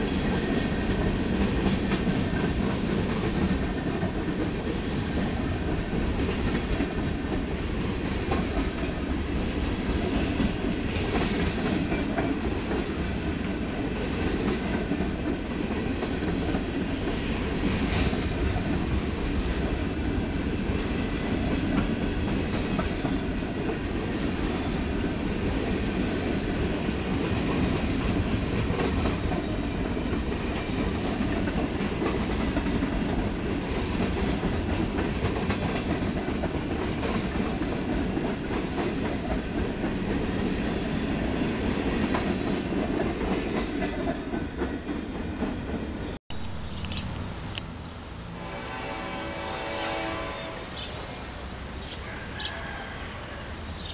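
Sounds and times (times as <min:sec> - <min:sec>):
steel wheels rumbling on rail: 0:00.0 - 0:46.2, 0:46.9 - 0:52.5
rail joints clickety-clack: 0:00.0 - 0:53.9.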